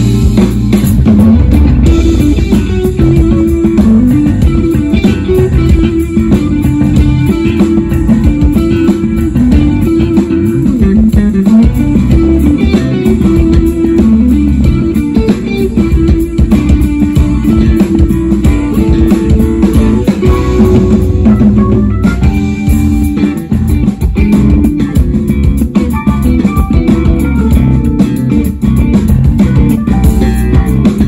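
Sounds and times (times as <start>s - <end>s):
electric bass line: 0.0s - 31.0s
jazz fusion band playing: 0.0s - 31.0s.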